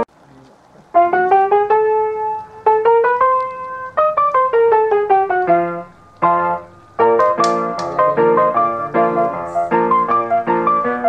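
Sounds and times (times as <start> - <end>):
slow piano melody: 0.8 - 11.0.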